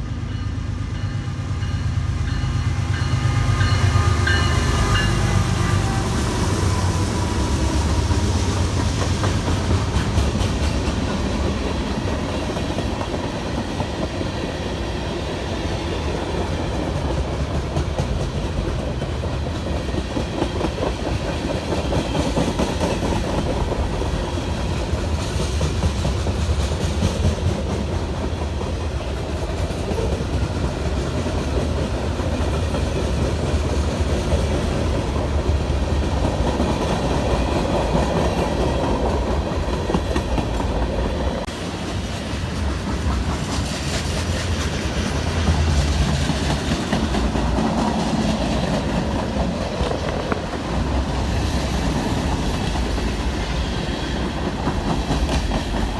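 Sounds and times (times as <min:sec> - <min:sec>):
train wheels clacking on rails: 0:00.0 - 0:55.9.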